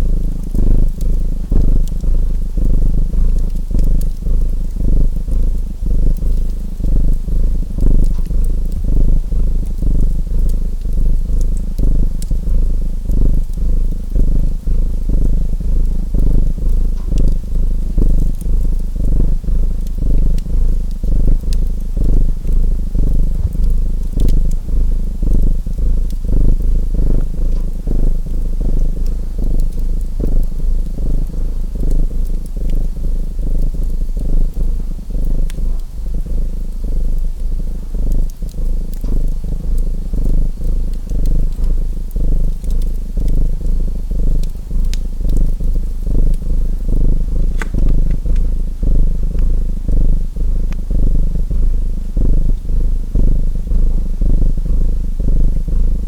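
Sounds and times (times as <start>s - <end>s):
cat purring: 0.0s - 56.0s
wood fire crackles: 0.0s - 56.0s.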